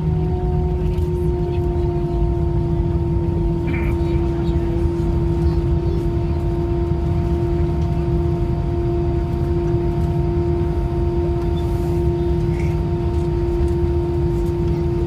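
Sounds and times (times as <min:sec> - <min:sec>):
airplane cabin rumble and drone: 0:00.0 - 0:15.0.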